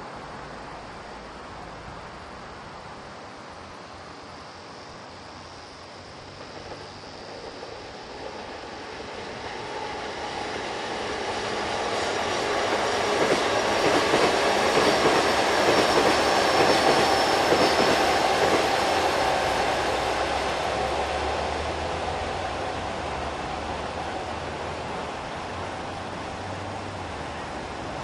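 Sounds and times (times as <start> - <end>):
faint high whine: 0.0 - 28.0
train wheels rumbling on rails: 5.4 - 28.0.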